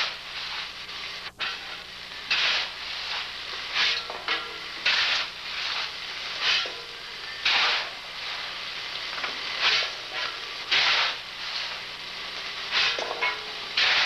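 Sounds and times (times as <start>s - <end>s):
steady low hum: 0.0s - 14.0s
steam engine puffing: 0.0s - 14.0s.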